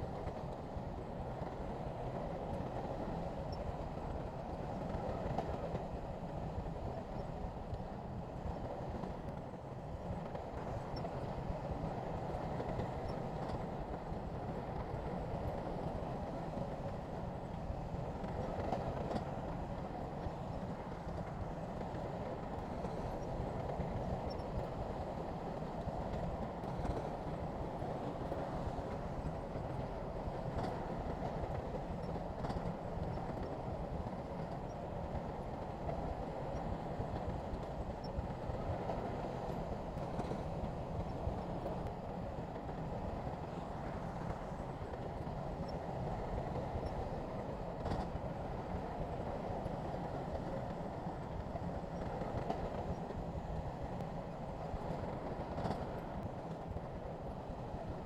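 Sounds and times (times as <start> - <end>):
faint clanks of steel tracks: 0.0 - 58.0.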